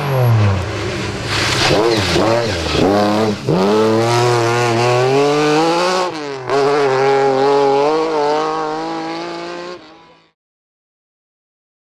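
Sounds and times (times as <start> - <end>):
rally car engine accelerating: 0.0 - 10.3.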